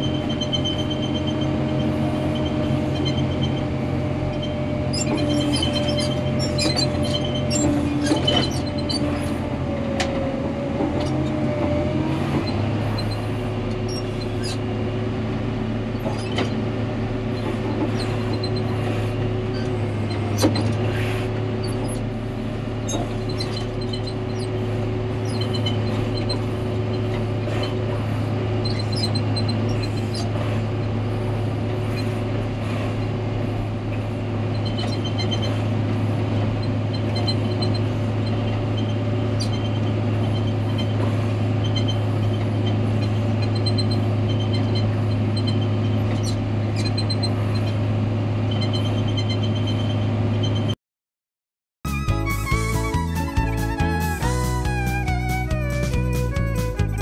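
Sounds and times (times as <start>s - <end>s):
diesel engine running: 0.0s - 50.8s, 51.9s - 57.0s.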